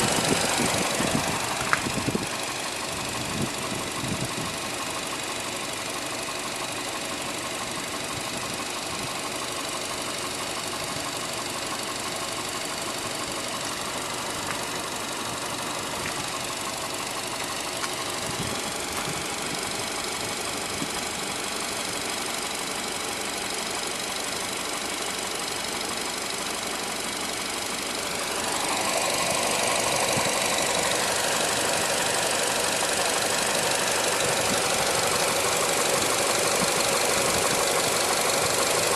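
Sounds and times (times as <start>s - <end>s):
engine extraneous noise: 0.0s - 5.9s, 10.3s - 23.6s, 26.6s - 38.9s
car engine running: 0.0s - 38.9s.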